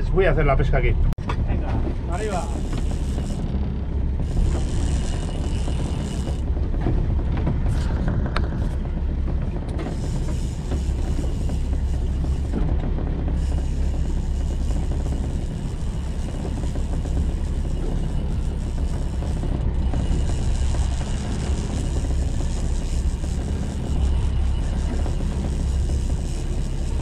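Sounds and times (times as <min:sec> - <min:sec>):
boat engine running: 0:00.0 - 0:27.0
wind buffeting microphone: 0:00.0 - 0:27.0.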